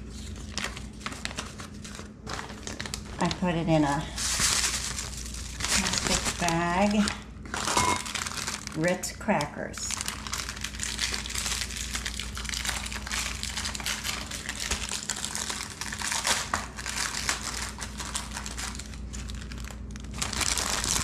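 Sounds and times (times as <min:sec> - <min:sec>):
crinkling cracker wrapper: 0:00.0 - 0:21.0
plastic bag rustling: 0:00.0 - 0:21.0.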